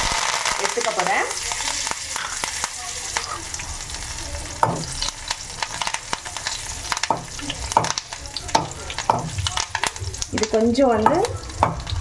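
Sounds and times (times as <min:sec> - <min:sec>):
leaves sizzling in hot oil: 0:00.0 - 0:12.0
spoon scraping a pan: 0:00.6 - 0:03.6, 0:04.6 - 0:12.0.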